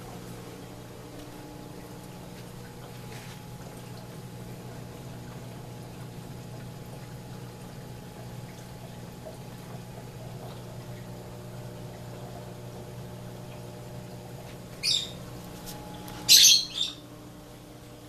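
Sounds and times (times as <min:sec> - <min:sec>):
low pump hum: 0:00.0 - 0:18.0
trickling water: 0:00.0 - 0:18.0.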